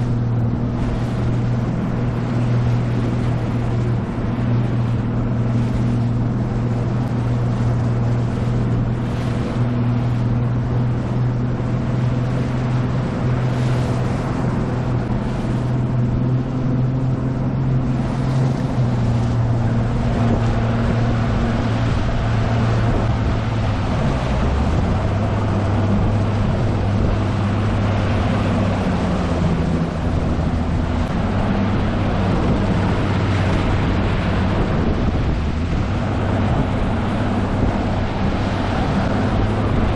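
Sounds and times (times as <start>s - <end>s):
outboard motor running: 0.0s - 39.9s
wind and water spray rushing: 0.0s - 39.9s.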